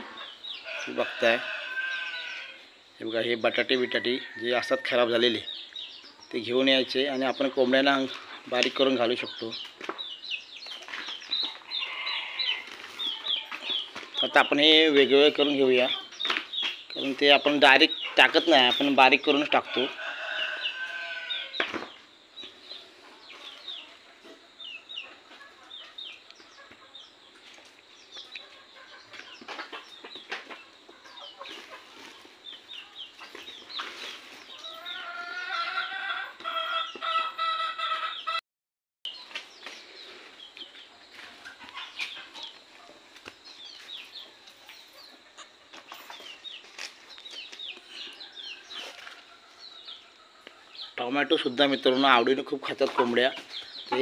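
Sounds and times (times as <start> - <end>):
chickens clucking: 0.0 - 38.4, 39.1 - 54.0.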